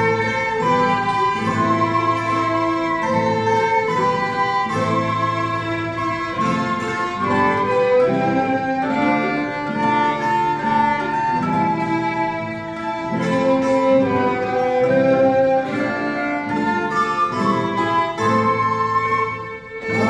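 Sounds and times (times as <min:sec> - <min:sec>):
plucked string ensemble: 0:00.0 - 0:20.0.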